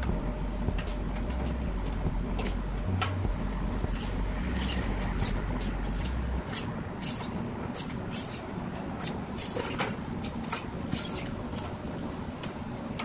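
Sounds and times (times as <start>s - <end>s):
dry rustles and clicks: 0.0s - 13.0s.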